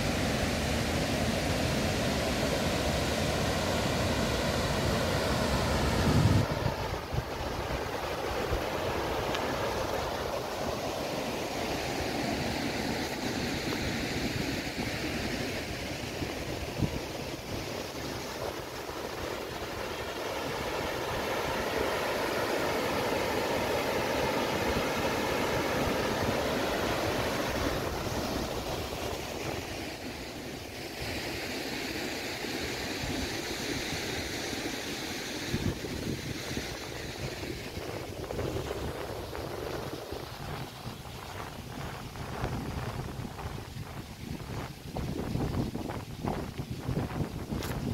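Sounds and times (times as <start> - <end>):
water rushing over weir: 0.0 - 47.9.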